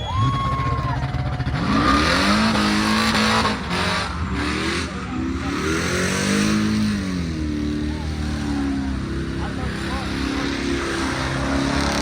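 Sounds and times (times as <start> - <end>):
car engine revving: 0.1 - 12.0.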